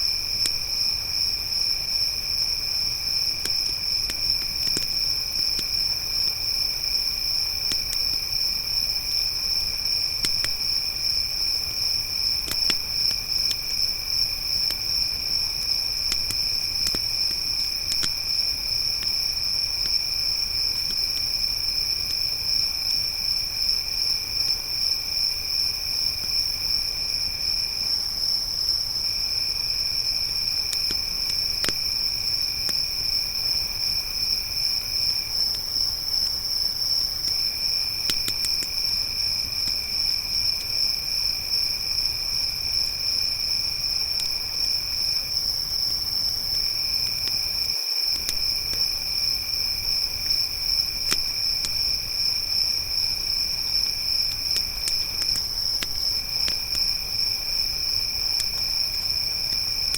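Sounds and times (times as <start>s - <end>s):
crickets trilling: 0.0s - 59.9s
campfire crackling pops: 0.2s - 23.7s, 28.2s - 59.9s.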